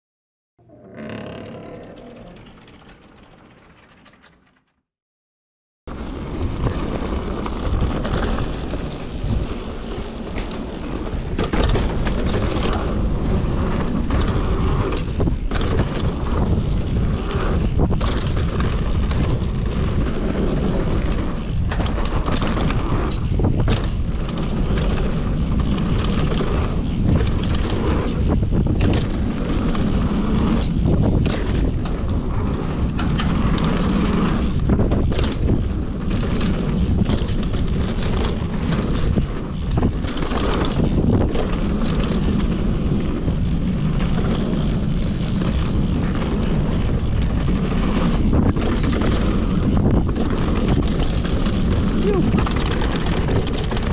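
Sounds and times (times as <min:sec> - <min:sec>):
bike rattling: 0:00.7 - 0:04.9, 0:05.9 - 0:53.9
bike tyres on dirt: 0:05.9 - 0:53.9
wind on microphone: 0:05.9 - 0:53.9.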